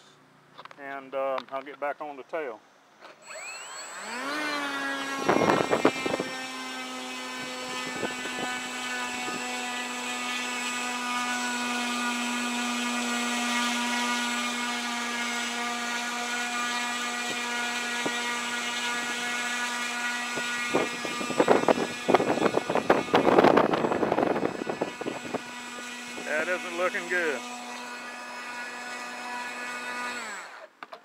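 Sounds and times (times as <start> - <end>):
electric motor propeller whine: 3.1 - 30.7.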